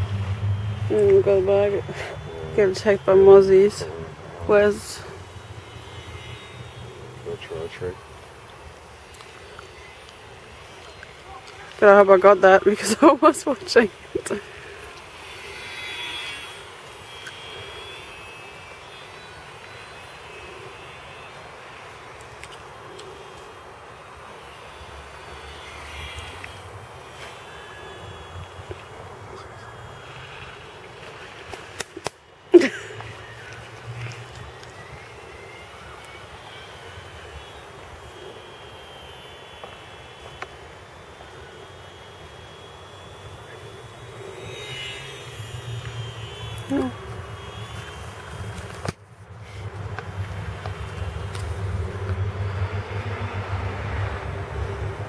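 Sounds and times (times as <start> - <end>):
background hiss: 0.0 - 55.0
small electric plane motor whining: 0.0 - 55.0.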